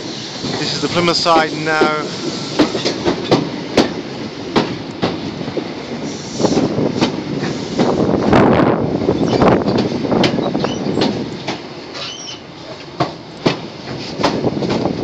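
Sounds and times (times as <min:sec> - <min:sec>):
wheels rumbling on rail: 0:00.0 - 0:15.0
wheels clacking over rail joints: 0:00.4 - 0:08.0, 0:09.1 - 0:15.0.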